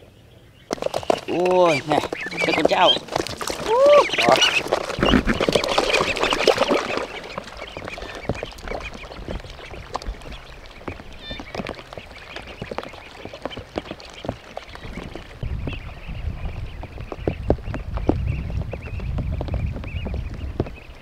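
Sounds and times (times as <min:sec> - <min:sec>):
ducks calling: 0:00.3 - 0:21.0.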